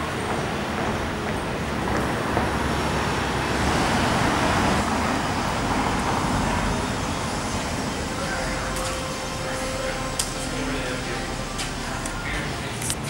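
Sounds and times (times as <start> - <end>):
passing cars: 0.0 - 13.0.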